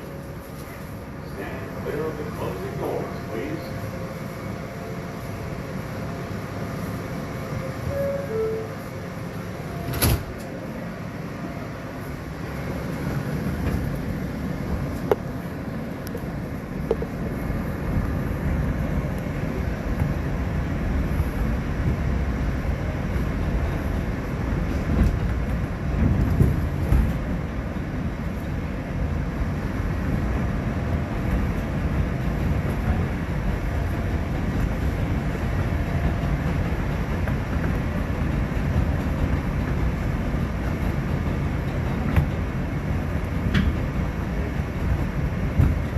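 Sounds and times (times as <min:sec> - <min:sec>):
train doors shutting: 0:00.0 - 0:45.9
train wheels rumbling on rails: 0:00.0 - 0:45.9.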